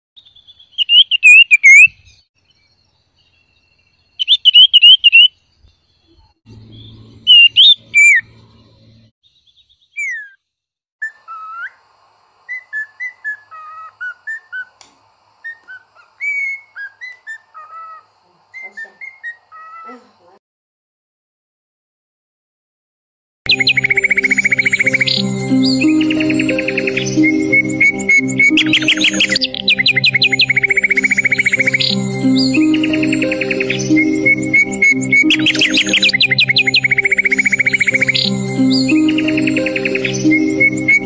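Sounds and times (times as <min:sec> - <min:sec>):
songbirds whistling: 0:00.2 - 0:10.4, 0:12.5 - 0:14.8, 0:15.4 - 0:19.9, 0:23.5 - 0:41.0
bird chirps: 0:00.2 - 0:11.9, 0:12.5 - 0:14.8, 0:15.4 - 0:20.1, 0:23.5 - 0:41.0.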